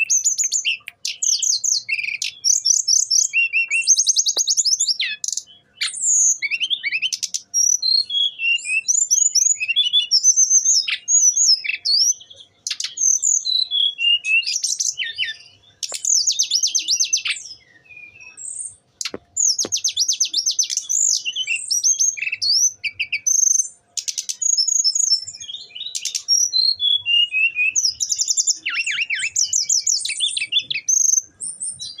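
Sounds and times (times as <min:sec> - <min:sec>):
bird singing trills: 0:00.0 - 0:32.0.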